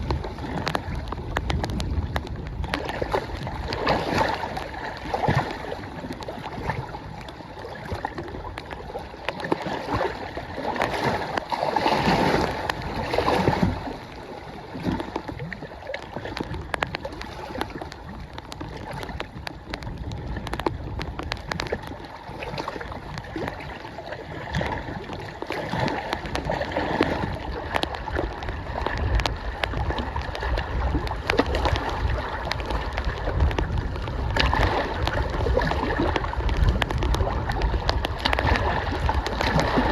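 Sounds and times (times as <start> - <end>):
waves splashing on shore: 0.0 - 39.9
wind buffeting microphone: 0.0 - 39.9.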